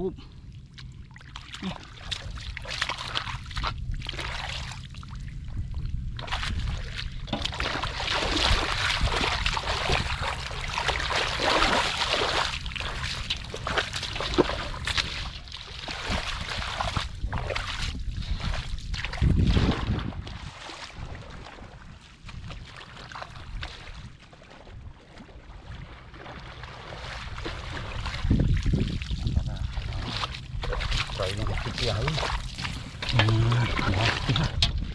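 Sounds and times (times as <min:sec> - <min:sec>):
hands splashing in muddy water: 0:00.8 - 0:04.9, 0:06.2 - 0:34.7.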